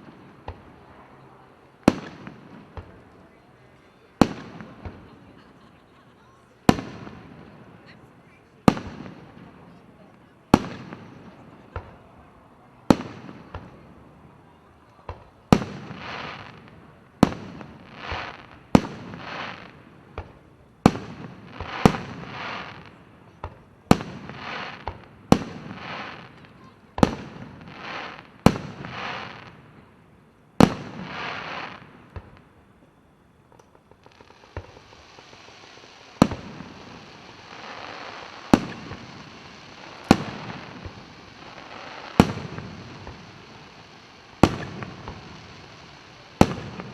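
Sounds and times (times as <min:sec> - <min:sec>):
fireworks bangs: 0:00.0 - 0:05.6, 0:06.6 - 0:08.0, 0:08.6 - 0:29.9, 0:30.6 - 0:32.9, 0:33.5 - 0:46.9.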